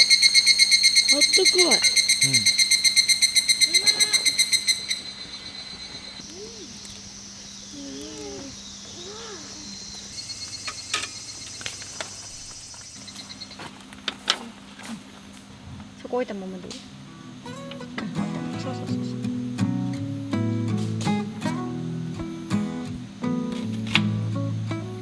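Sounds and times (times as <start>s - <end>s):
loud pulsing insect chirp: 0.0s - 14.3s, 15.0s - 25.0s
faint high insect buzz: 0.0s - 25.0s.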